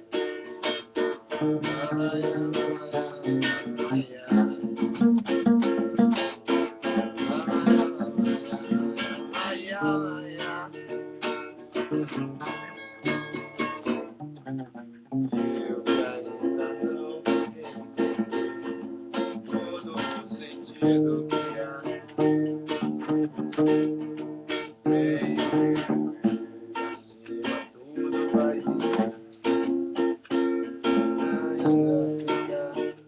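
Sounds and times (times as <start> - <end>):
acoustic guitar strumming chords: 0.0 - 33.0
acoustic bass plucked notes: 1.4 - 33.0.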